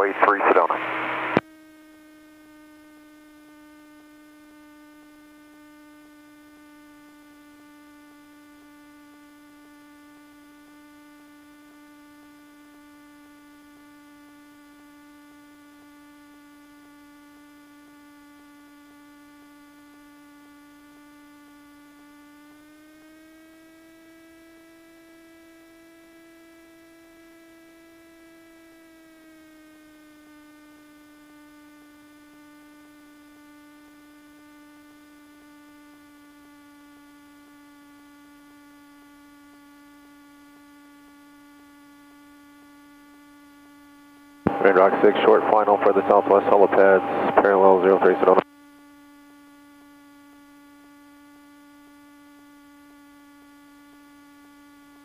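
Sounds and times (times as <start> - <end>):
electrical whine in intercom: 0.0 - 25.8, 26.6 - 55.0.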